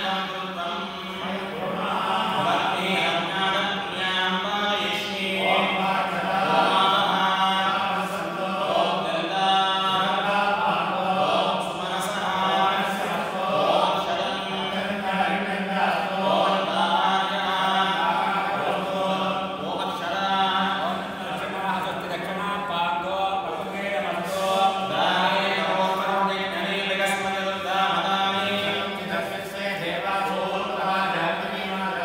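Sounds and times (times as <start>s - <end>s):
priests chanting together: 0.0s - 32.0s.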